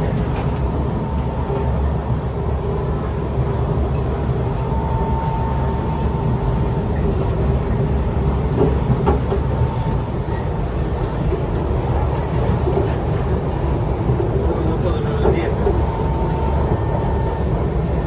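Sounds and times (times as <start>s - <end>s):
faint train whine: 0.0s - 18.0s
train wheels rumbling on track: 0.0s - 18.0s.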